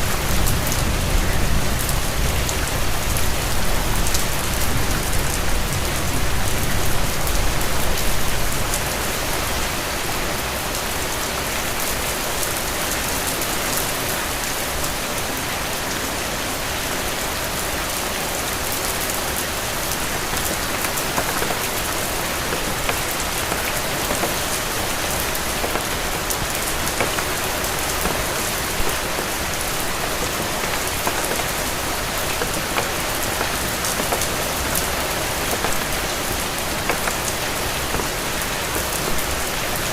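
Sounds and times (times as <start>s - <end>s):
steady rain with drops ticking: 0.0s - 39.9s.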